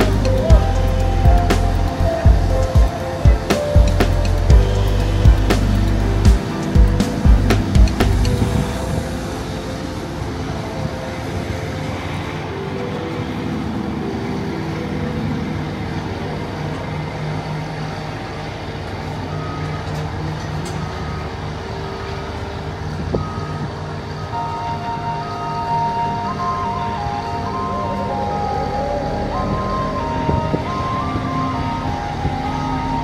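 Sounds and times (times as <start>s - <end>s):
heavy machinery engines droning: 0.0s - 33.0s.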